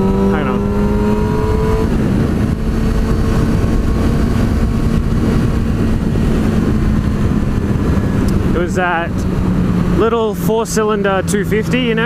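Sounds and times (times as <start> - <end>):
motorcycle engine running: 0.0 - 12.0
rushing wind noise: 0.0 - 12.0.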